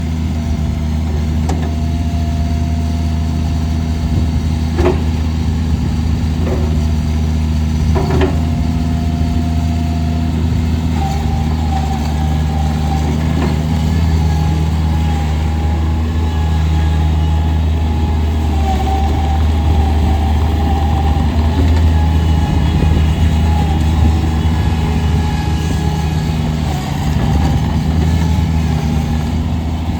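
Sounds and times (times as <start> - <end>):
diesel engine running: 0.0 - 29.9
thin mechanical whine: 1.5 - 29.9.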